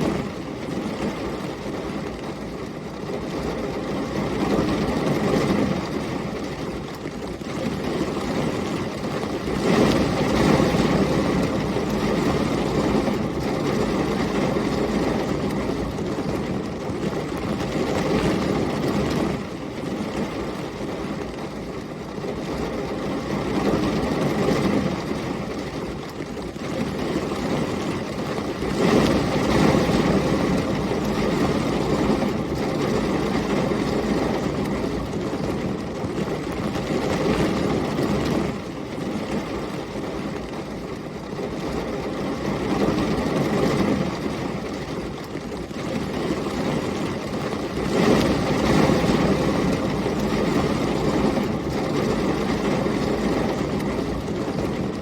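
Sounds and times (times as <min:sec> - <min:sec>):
heavy rain: 0:00.0 - 0:55.0
storm wind: 0:00.0 - 0:55.0.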